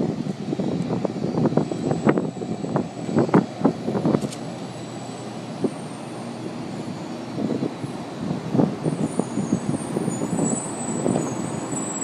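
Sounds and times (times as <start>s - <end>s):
faint high whine: 0.0s - 12.0s
irregular thumps of train: 0.0s - 12.0s
train arriving and slowing: 0.0s - 12.0s.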